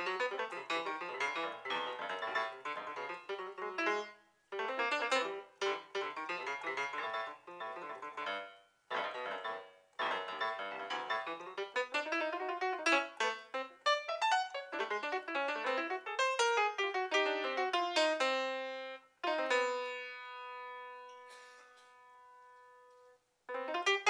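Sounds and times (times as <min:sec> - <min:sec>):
free jazz piano playing: 0:00.0 - 0:24.0.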